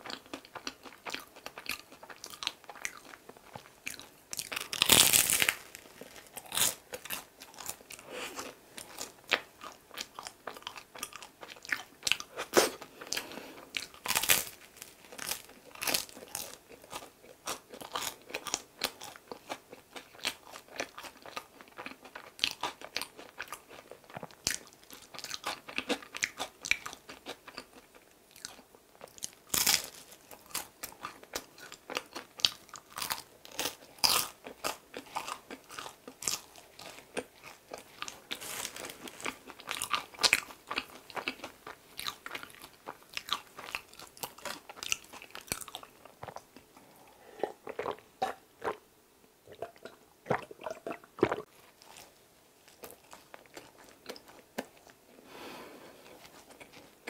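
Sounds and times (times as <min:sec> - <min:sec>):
person chewing crusty bread: 0:00.0 - 0:48.9, 0:49.5 - 0:57.0.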